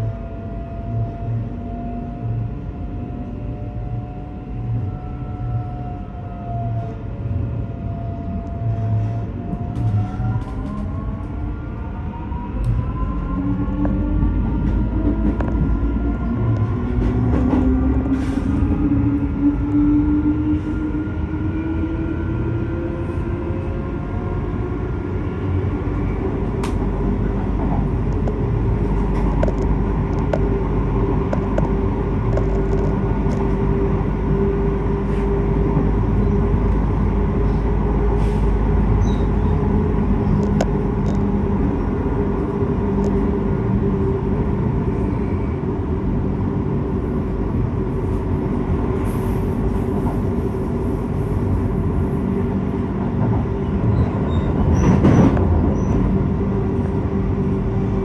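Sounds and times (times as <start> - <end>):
low train rumble: 0.0 - 58.0.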